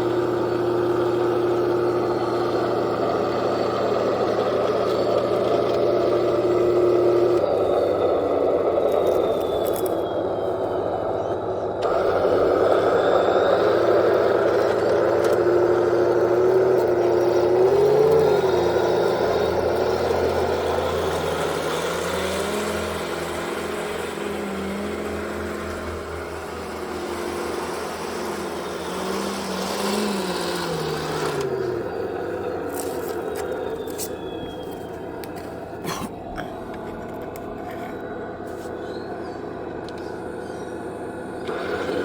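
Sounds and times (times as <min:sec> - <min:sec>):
toy tank motor running: 0:00.0 - 0:35.7, 0:39.4 - 0:42.0.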